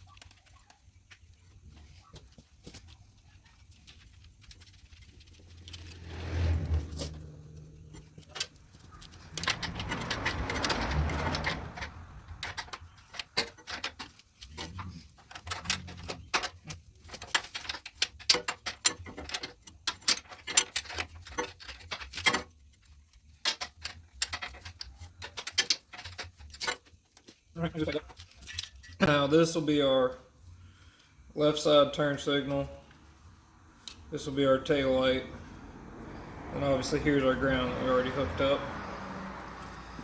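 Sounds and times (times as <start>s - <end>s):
rustling handling noise: 0.0s - 35.6s.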